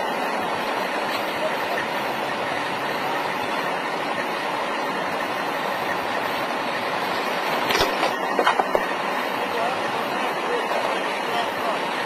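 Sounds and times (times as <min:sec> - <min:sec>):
steady vehicle noise: 0:00.0 - 0:12.0.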